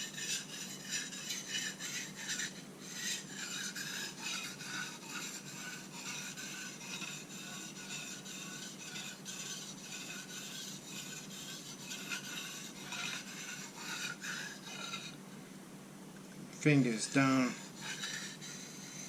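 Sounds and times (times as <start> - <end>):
knife scraping on whetstone: 0.0 - 15.2, 16.9 - 19.0.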